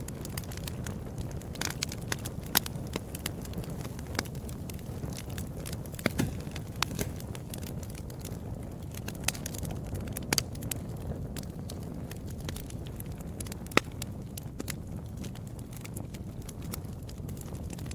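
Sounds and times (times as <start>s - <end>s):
fire pops and snaps: 0.0s - 17.9s
fire rumble: 0.0s - 17.9s.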